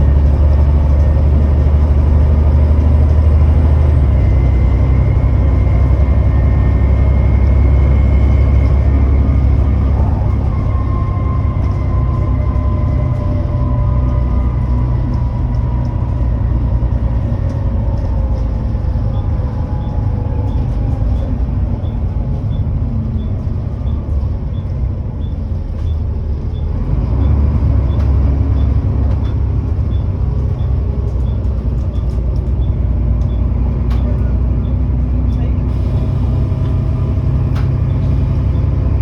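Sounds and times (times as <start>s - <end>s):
bus diesel engine rumbling: 0.0s - 39.0s.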